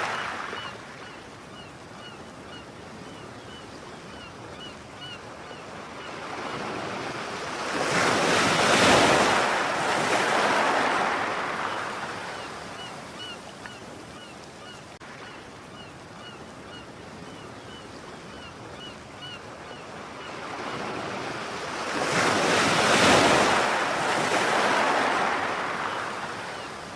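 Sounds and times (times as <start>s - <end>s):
waves washing in: 0.0s - 3.1s, 5.8s - 17.8s, 19.9s - 26.9s.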